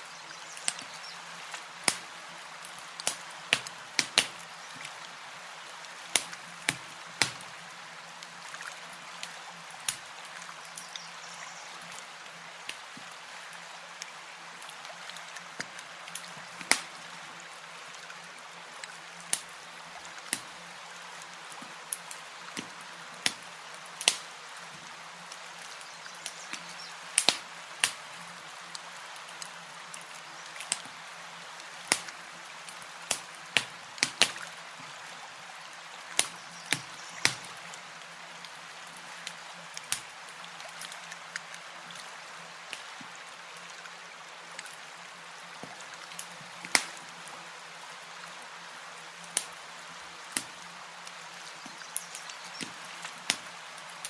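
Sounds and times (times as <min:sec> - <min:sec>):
campfire crackling: 0:00.0 - 0:35.0, 0:35.7 - 0:42.0, 0:45.6 - 0:47.7, 0:49.2 - 0:54.0.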